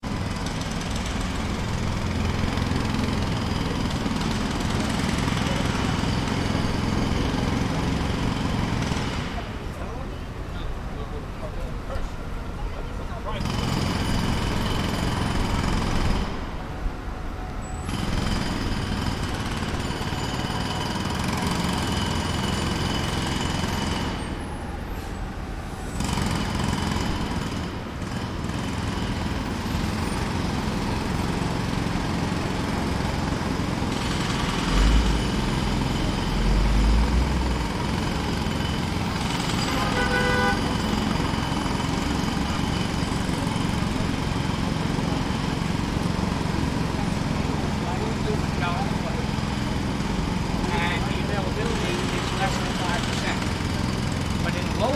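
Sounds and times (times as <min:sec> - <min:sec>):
distant jackhammer pounding: 0:00.0 - 0:10.8, 0:13.2 - 0:16.8, 0:17.6 - 0:24.8, 0:25.9 - 0:54.9
city traffic: 0:00.0 - 0:54.9.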